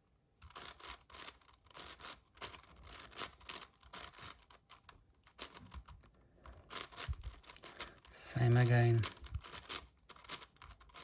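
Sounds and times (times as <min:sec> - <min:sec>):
puzzle cube clicking: 0:00.5 - 0:11.0.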